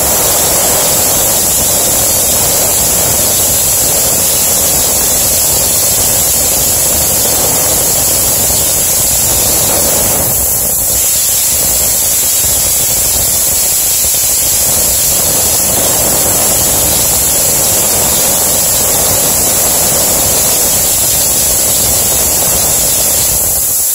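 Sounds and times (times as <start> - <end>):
compressed air spray hiss: 0.0 - 23.9.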